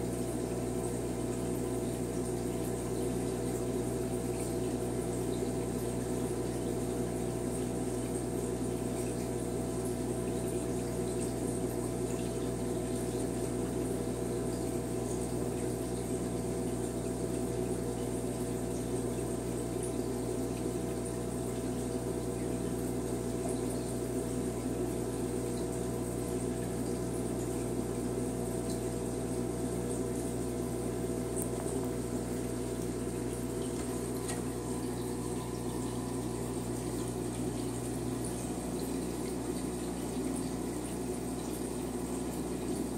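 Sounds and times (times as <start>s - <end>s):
aquarium pump hum: 0.0s - 42.9s
bubbling water: 0.0s - 42.9s.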